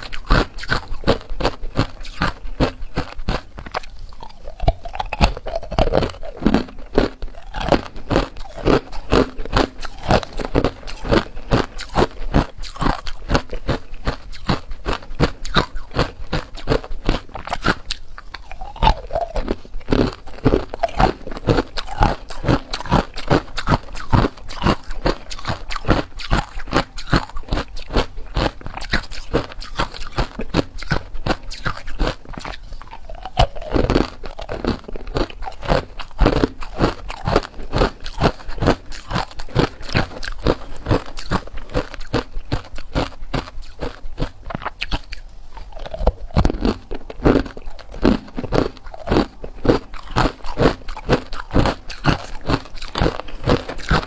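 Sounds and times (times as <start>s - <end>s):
ice cubes crunched by teeth: 0.0s - 54.0s.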